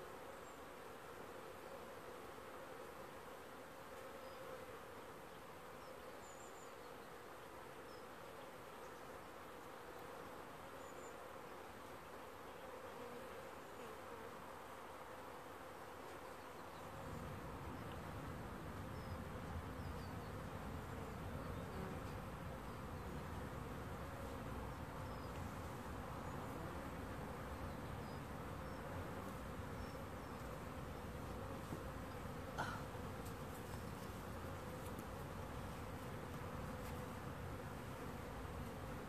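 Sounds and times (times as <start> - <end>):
honeybees buzzing: 0.0 - 39.0.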